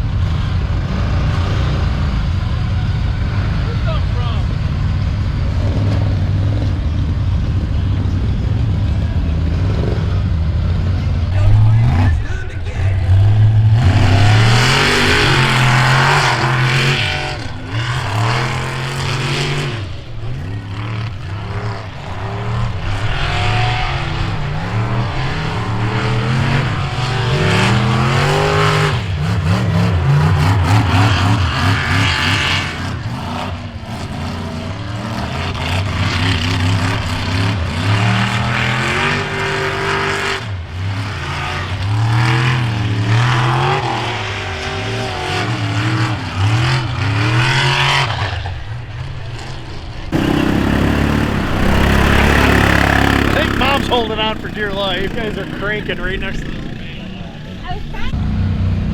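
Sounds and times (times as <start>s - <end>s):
off-road engines revving hard: 0.0s - 58.9s.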